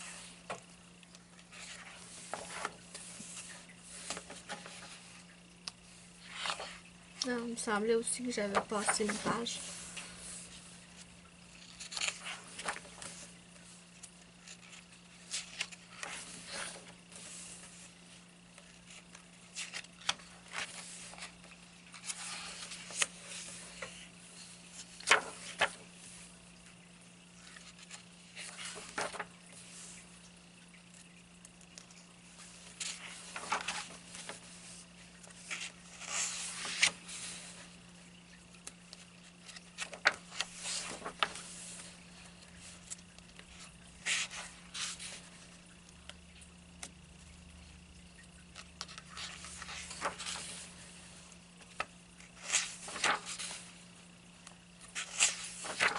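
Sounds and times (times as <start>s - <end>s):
faint steady hum: 0.0s - 55.9s
paper pages rustling: 0.1s - 18.0s, 18.6s - 26.2s, 27.4s - 30.1s, 30.9s - 37.8s, 38.5s - 45.7s, 48.6s - 53.8s, 54.4s - 55.9s.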